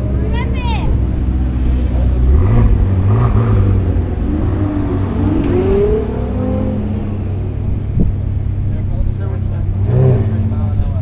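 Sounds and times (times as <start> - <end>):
sports car engines accelerating: 0.0 - 11.0.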